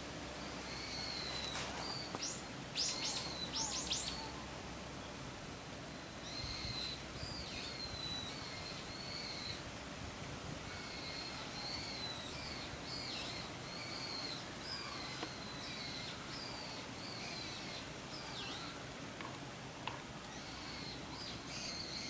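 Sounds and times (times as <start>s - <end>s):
bird calling: 0.4s - 4.6s, 6.2s - 9.6s, 10.6s - 19.4s, 20.2s - 22.0s.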